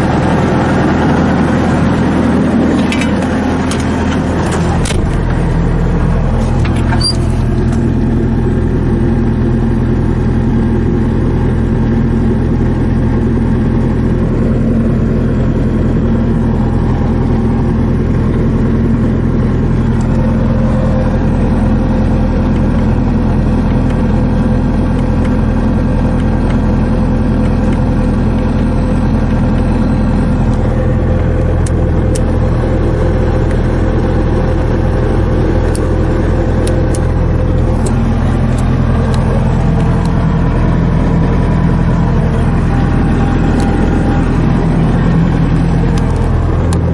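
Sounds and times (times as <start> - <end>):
diesel engine running: 0.0 - 46.9
high steady whine: 0.0 - 46.9.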